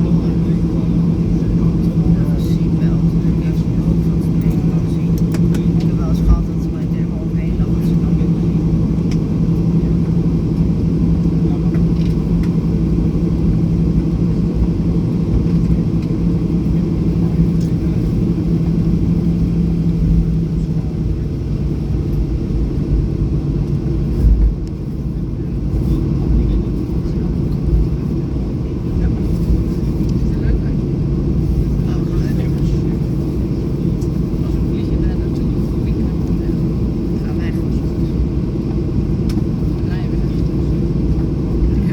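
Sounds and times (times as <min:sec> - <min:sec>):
jet engines low rumble: 0:00.0 - 0:41.9.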